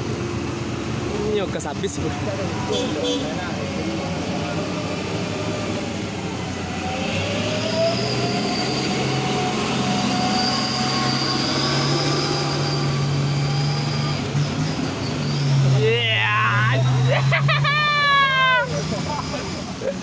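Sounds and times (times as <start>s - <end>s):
vehicle engine whining: 0.0s - 20.0s.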